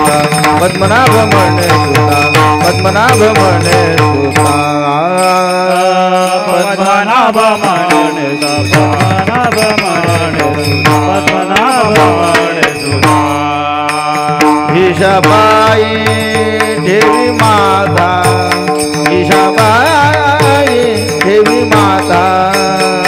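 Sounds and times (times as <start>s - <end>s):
hand cymbals clashing: 0.0s - 23.0s.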